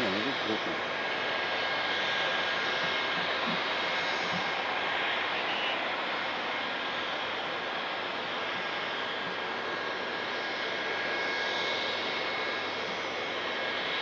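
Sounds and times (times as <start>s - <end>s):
faint high whine: 0.0s - 14.0s
jet engine rushing: 0.0s - 14.0s.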